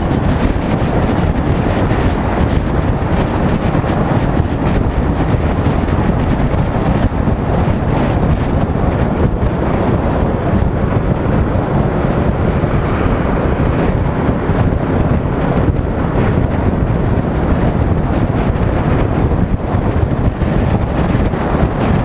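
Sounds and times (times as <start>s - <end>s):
motorcycle road noise: 0.0s - 22.0s
wind buffeting microphone: 0.0s - 22.0s.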